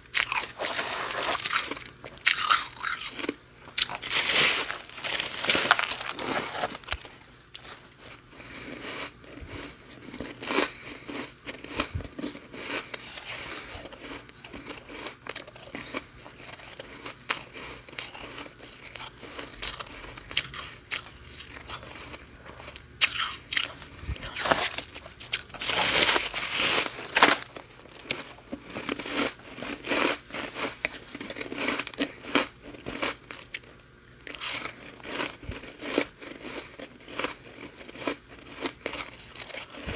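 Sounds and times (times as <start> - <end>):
crunching frost while chewing: 0.0 - 39.9.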